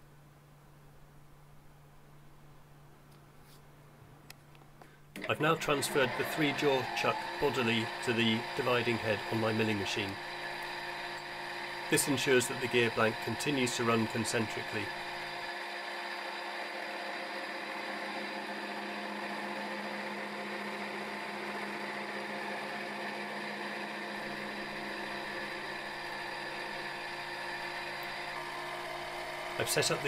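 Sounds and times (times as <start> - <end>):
milling machine humming: 5.2 - 30.0.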